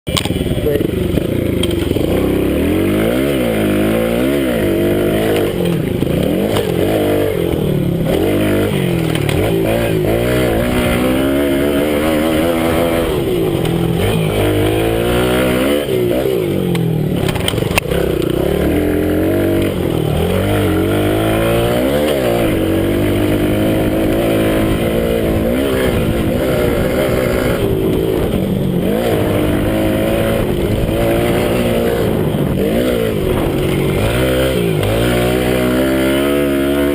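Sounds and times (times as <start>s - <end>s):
minibike engine revving: 0.1s - 36.9s.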